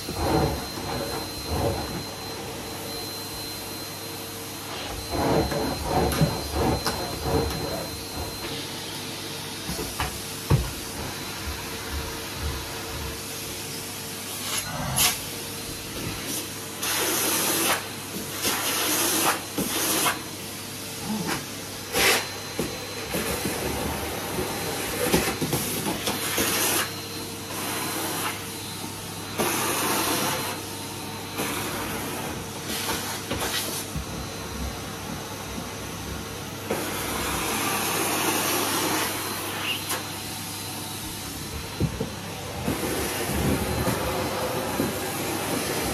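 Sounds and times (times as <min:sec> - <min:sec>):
vacuum nozzle sucking on carpet: 0:00.0 - 0:13.6, 0:14.2 - 0:45.9
vacuum cleaner running: 0:00.0 - 0:45.9.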